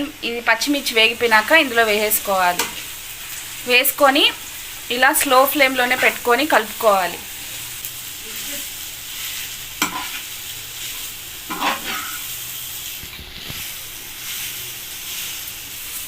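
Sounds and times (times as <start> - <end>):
food sizzling in oil: 0.0 - 16.0
stirring in a pan: 0.9 - 16.0.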